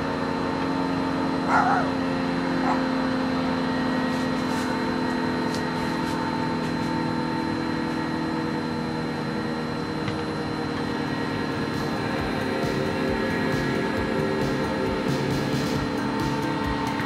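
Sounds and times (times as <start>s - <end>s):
warning siren steady chord: 0.0s - 17.0s.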